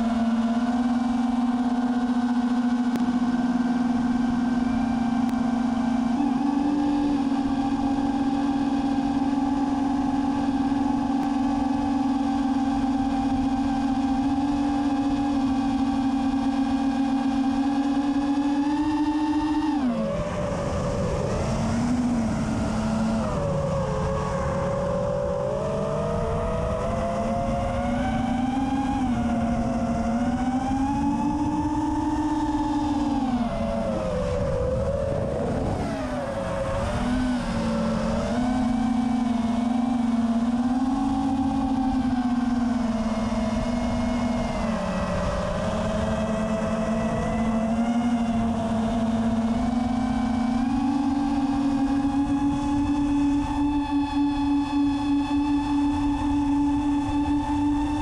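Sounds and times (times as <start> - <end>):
drone motors buzzing whine: 0.0 - 58.0
wind rush on microphone: 0.0 - 58.0.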